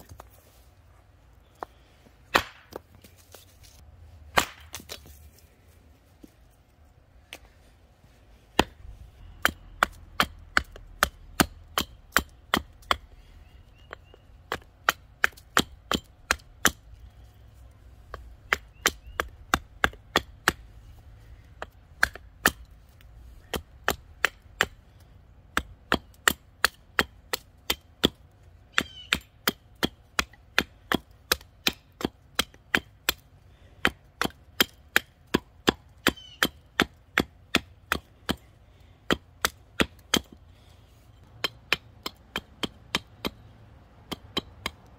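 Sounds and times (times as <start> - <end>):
hatchet chopping wood: 1.5 - 5.2, 8.5 - 44.9.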